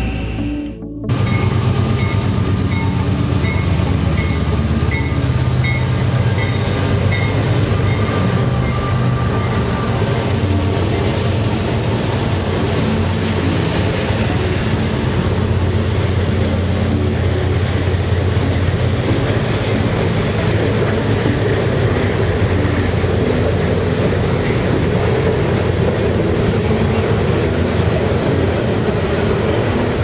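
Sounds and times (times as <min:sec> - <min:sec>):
diesel locomotive engine drone: 0:00.0 - 0:30.0
train wheels rumbling on rails: 0:01.1 - 0:30.0.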